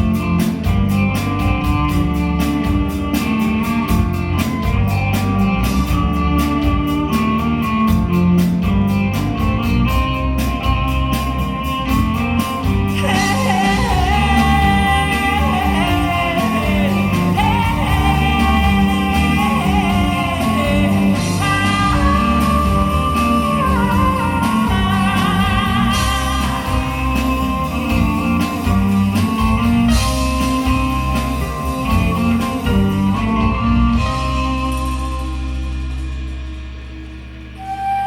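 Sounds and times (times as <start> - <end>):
live folk-rock band: 0.0 - 36.4, 37.6 - 38.0.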